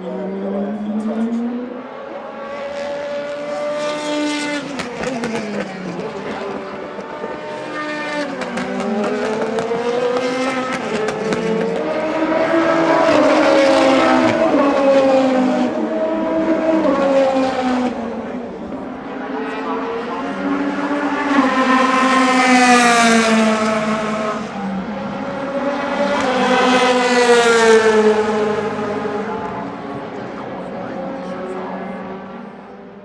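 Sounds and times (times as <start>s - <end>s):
race car engines passing: 0.0s - 33.0s.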